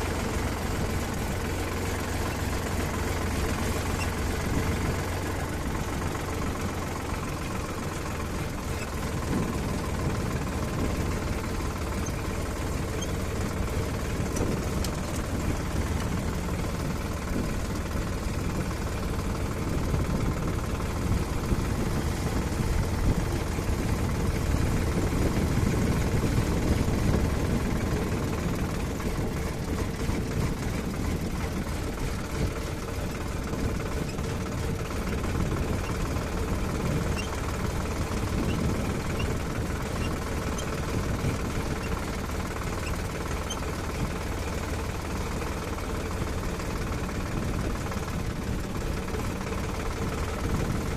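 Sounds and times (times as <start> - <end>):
heavy vehicle engine running: 0.0 - 50.9.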